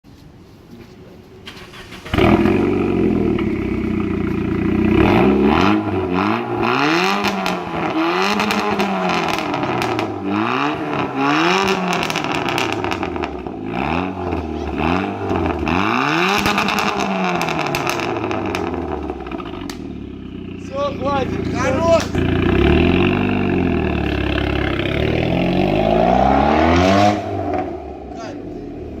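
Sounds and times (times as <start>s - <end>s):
car engine starting and revving: 1.4s - 29.0s.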